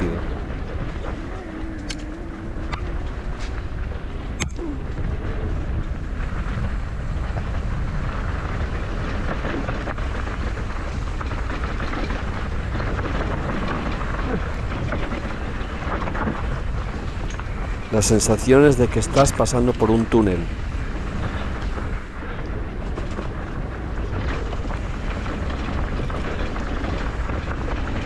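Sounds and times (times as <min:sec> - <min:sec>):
bike rattling over bumps: 0:00.0 - 0:28.0
tyres rolling over dirt and stones: 0:00.0 - 0:28.0
wind rumble on microphone: 0:00.0 - 0:28.0.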